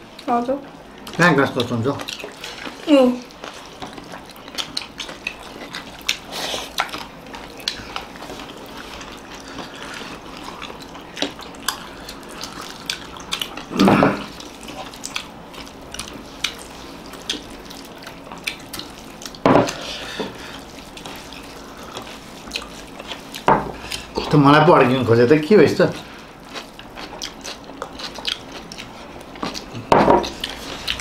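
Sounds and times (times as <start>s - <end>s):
chewing sounds: 0.9s - 24.4s, 25.8s - 31.0s.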